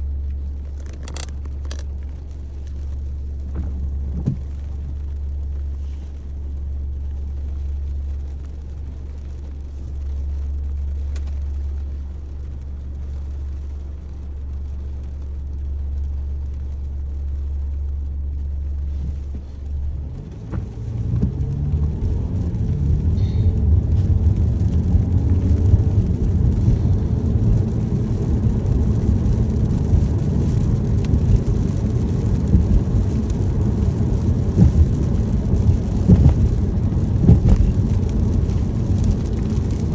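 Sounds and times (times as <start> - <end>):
car road drone inside cabin: 0.0 - 39.9
rain on car: 0.0 - 39.9.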